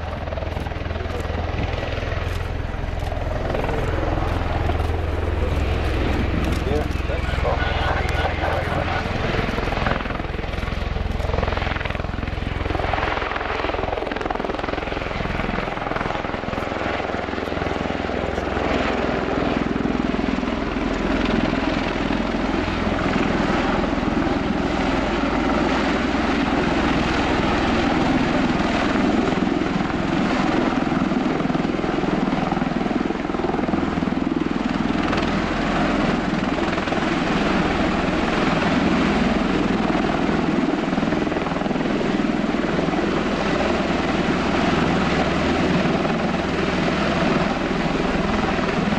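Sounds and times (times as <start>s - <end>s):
tiltrotor aircraft rotor drone: 0.0s - 48.9s.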